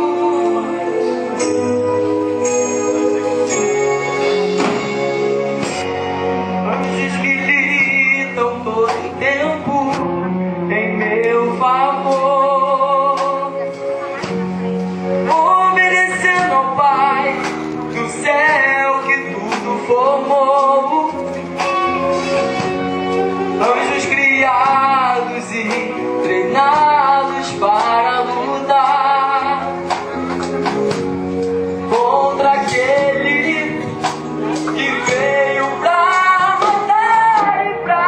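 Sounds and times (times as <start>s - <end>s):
instrumental accompaniment: 0.0s - 38.0s
person singing worship song: 0.0s - 38.0s.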